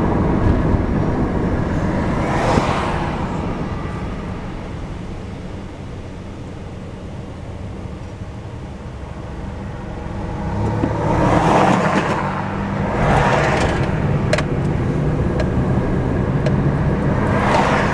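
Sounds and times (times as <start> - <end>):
car engine and road noise: 0.0 - 17.9
cars rushing past: 0.0 - 17.9.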